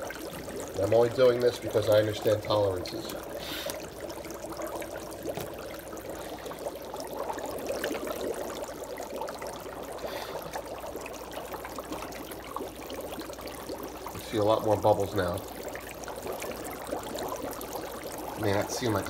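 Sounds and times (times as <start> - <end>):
dry ice bubbling in water: 0.0 - 19.0.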